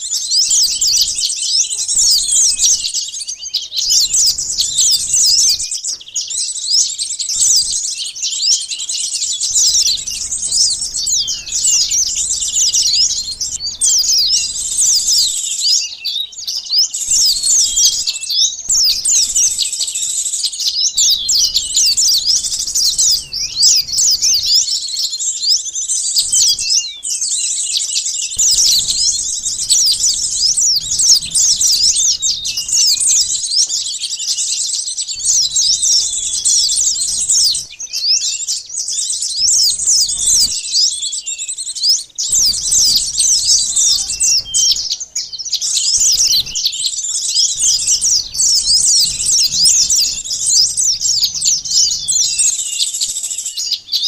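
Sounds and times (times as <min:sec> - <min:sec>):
small birds chirping in chorus: 0:00.0 - 0:54.0.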